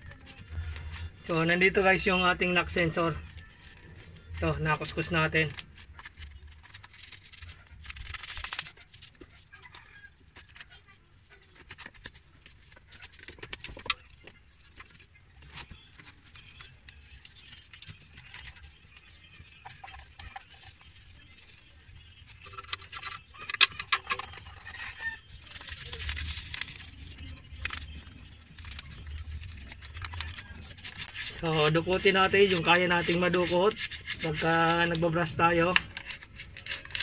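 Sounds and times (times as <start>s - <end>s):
toothbrush scrubbing engine parts: 2.0s - 37.0s.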